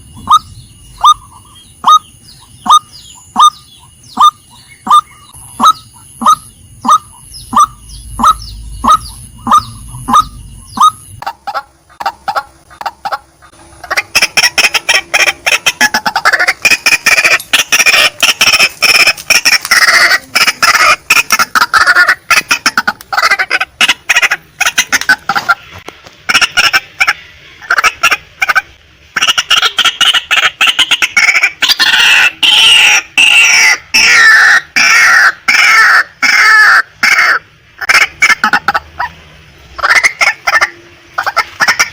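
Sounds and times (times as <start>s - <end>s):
waterhen calling: 0.0s - 39.2s, 39.8s - 41.9s.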